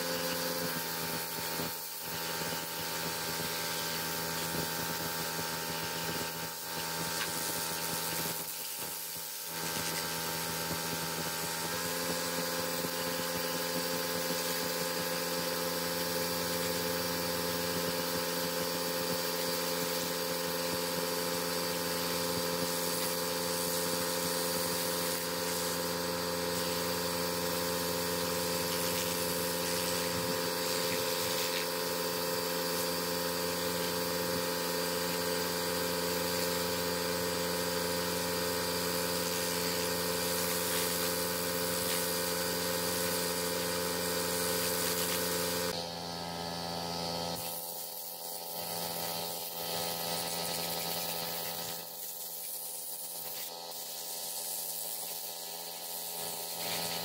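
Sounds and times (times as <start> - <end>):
electric motor humming: 0.0 - 57.0.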